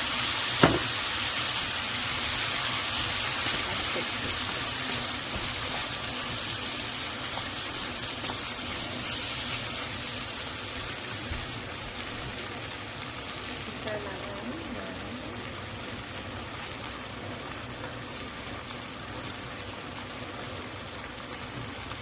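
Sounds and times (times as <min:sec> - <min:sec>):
hissing kitchen noise: 0:00.0 - 0:22.0.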